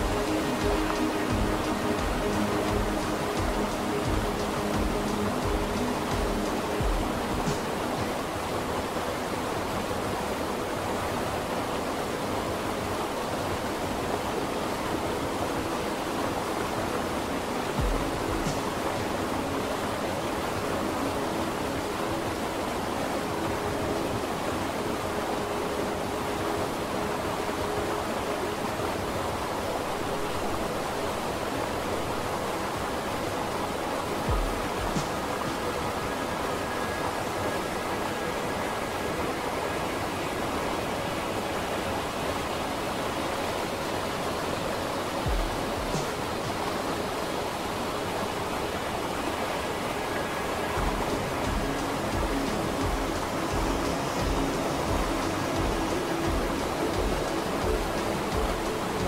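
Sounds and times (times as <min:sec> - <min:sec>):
soft background music: 0:00.0 - 0:59.0
steady rushing ambience: 0:00.0 - 0:59.0.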